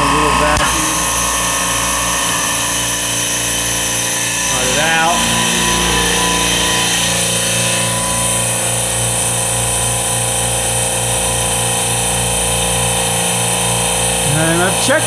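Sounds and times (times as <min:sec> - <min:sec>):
compressor humming: 0:00.0 - 0:15.0
steady tones: 0:00.0 - 0:15.0.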